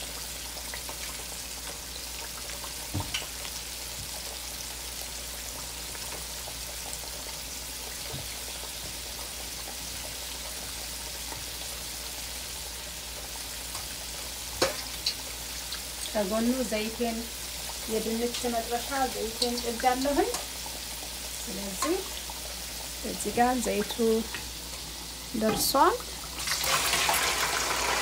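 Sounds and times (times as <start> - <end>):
chicken deep-frying in oil: 0.0 - 28.0.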